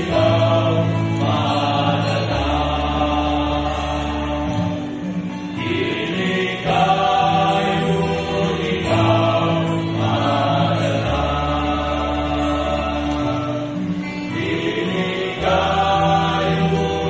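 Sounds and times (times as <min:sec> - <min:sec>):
men singing in harmony: 0:00.0 - 0:17.0.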